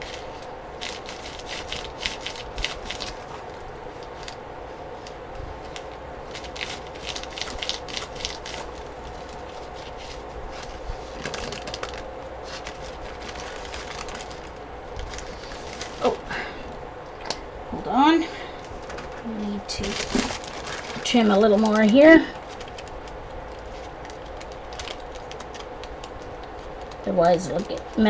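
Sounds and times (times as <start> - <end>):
paper rustling and clicking: 0.0 - 4.4, 5.0 - 16.2, 18.6 - 28.0
faint steady hum: 0.0 - 28.0.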